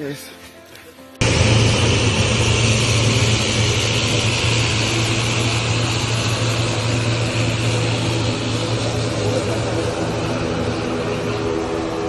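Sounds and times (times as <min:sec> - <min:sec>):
aircraft engine droning: 0:01.2 - 0:12.0.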